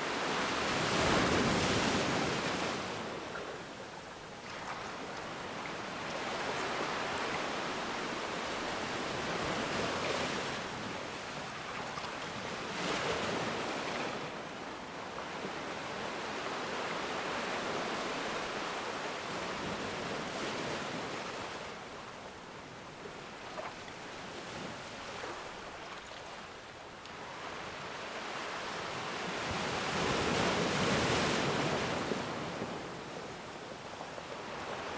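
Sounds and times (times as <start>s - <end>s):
ocean waves breaking on shore: 0.0s - 34.9s.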